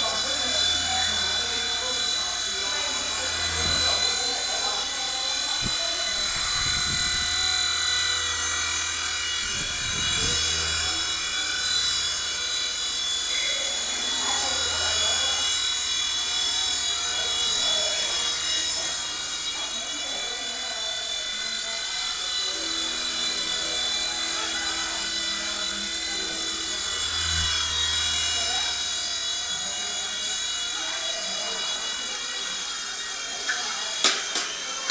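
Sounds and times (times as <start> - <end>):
toy helicopter motor whining: 0.0 - 34.9.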